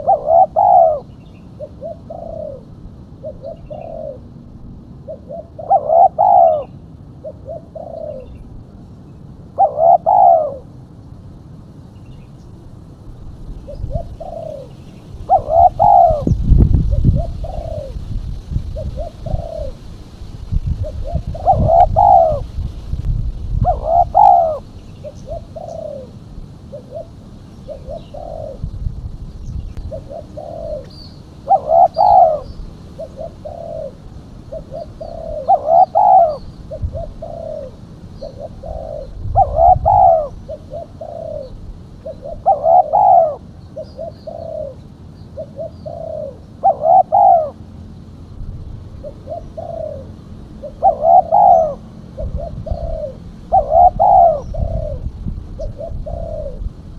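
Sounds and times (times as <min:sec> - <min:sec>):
dove cooing: 0:00.0 - 0:10.8, 0:12.7 - 0:22.6, 0:23.5 - 0:28.9, 0:29.8 - 0:48.0, 0:48.8 - 0:56.9.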